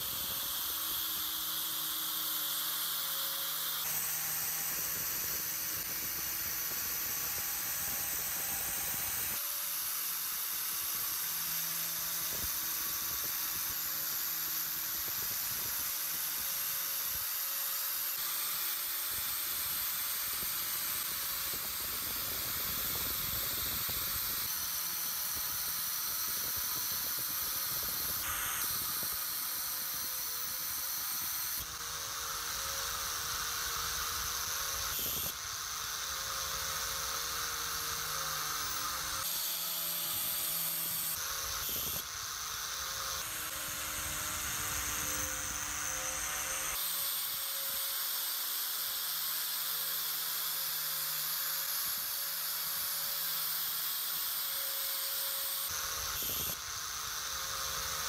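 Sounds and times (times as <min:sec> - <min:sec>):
faint motor hum: 0:00.0 - 0:47.8.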